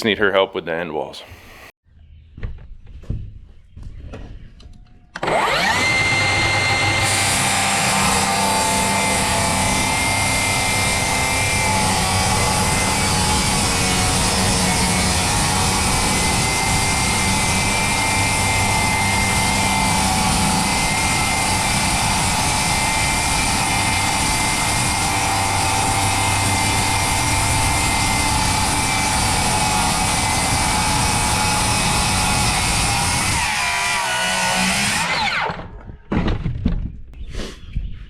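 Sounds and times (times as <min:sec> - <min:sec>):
power tool motor whining: 0:01.2 - 0:01.8, 0:05.2 - 0:35.6.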